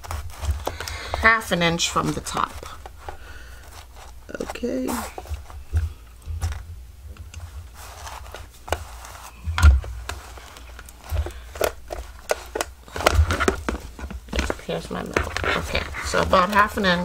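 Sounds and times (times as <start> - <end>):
paper rustles and light taps: 0.0 - 6.6, 7.3 - 17.0.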